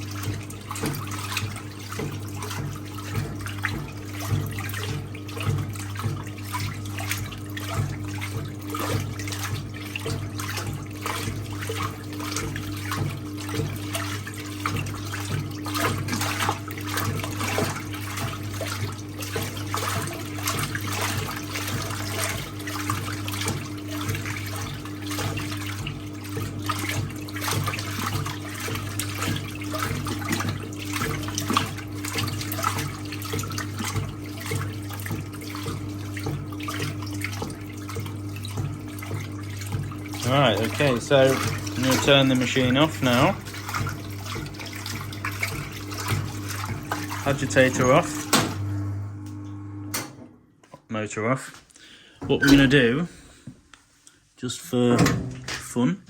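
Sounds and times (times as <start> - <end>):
washing machine motor humming: 0.0 - 50.6, 51.9 - 53.6, 54.5 - 56.0
water sloshing in washing machine: 0.0 - 56.0.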